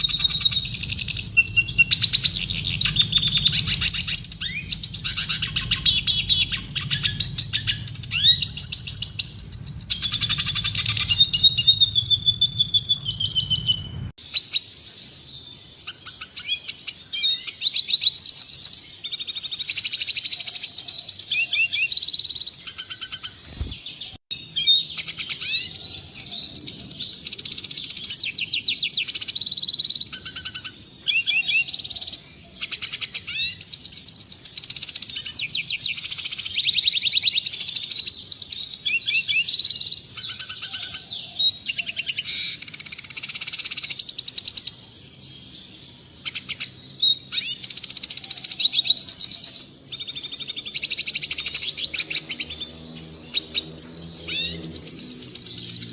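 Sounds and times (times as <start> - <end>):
bird twittering song: 0.0 - 55.9.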